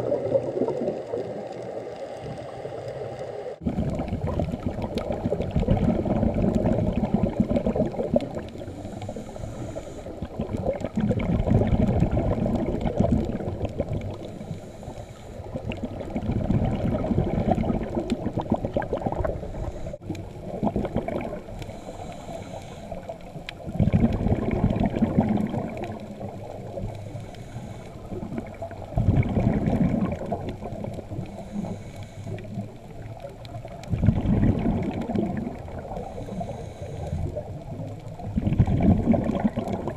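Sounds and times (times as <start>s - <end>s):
underwater bubbles rushing and gurgling: 0.0s - 39.9s.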